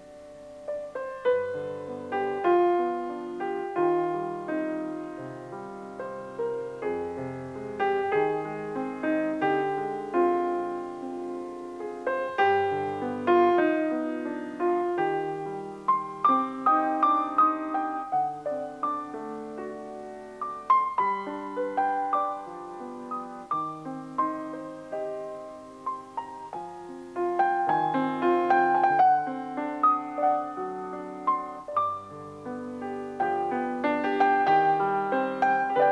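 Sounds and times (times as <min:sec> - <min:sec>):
solo piano melody: 0:00.0 - 0:35.9.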